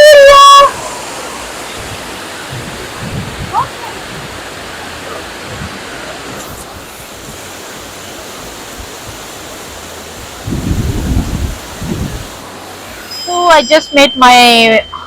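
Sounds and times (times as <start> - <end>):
rushing water: 0.0 - 14.8.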